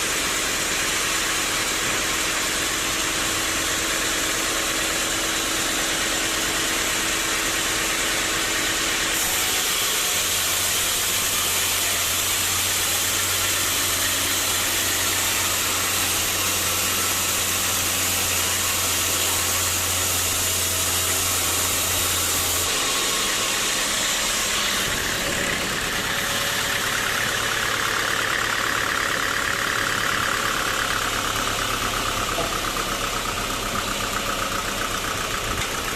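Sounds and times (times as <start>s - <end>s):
sawmill machinery running: 0.0s - 35.9s.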